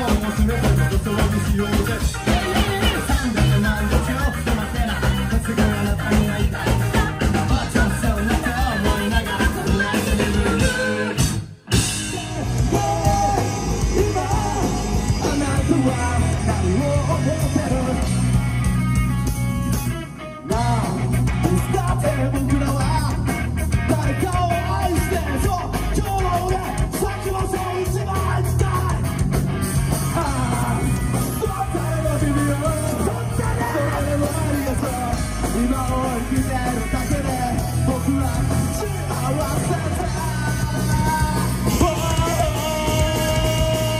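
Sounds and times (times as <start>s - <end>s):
singer shouting and singing: 0.0s - 18.8s, 20.4s - 43.9s
punk rock band playing live: 0.0s - 43.9s.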